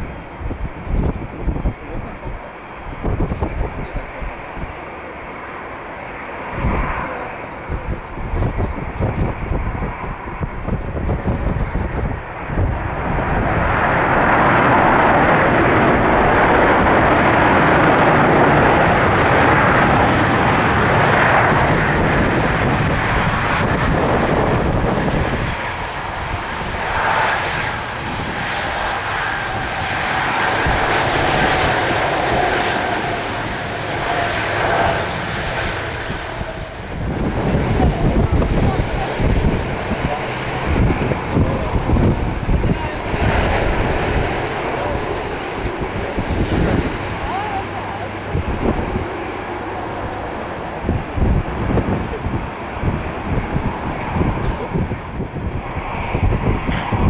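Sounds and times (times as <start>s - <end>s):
jet engine rush: 0.0s - 57.0s.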